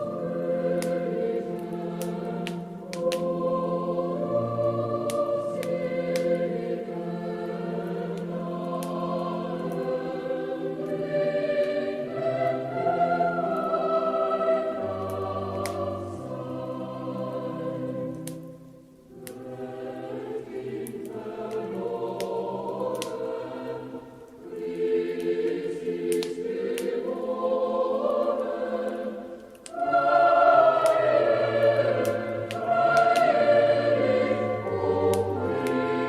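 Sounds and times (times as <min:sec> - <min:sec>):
choir singing slow song: 0:00.0 - 0:36.0
wood fire crackling: 0:00.0 - 0:36.0.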